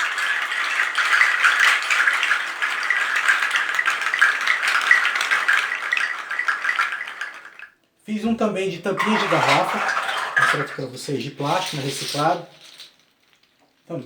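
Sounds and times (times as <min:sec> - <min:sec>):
seed rattle shaken: 0:00.0 - 0:07.7, 0:08.9 - 0:14.0.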